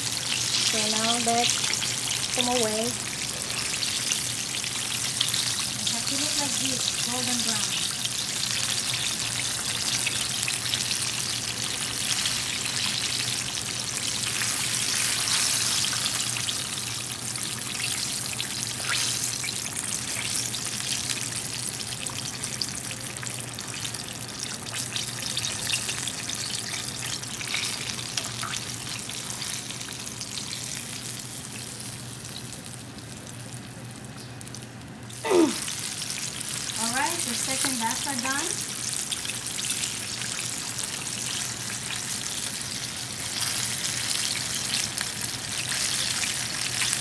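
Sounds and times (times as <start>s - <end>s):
chicken deep-frying in oil: 0.0s - 47.0s.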